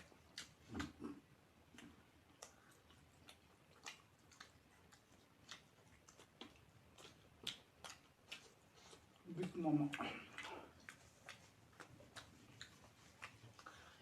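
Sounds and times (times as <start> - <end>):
person chewing: 0.0 - 14.0.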